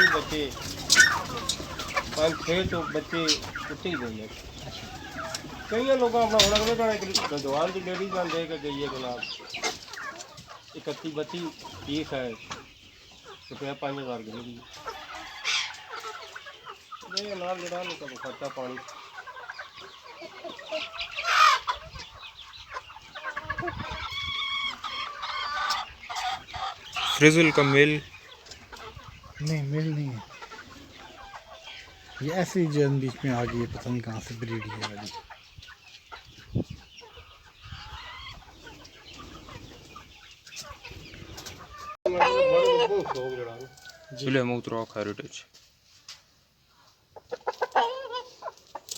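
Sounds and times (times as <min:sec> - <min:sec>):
chicken squawk: 0:00.0 - 0:10.7, 0:14.3 - 0:33.8, 0:36.1 - 0:44.2, 0:46.8 - 0:48.9
chickens clucking: 0:00.0 - 0:48.9.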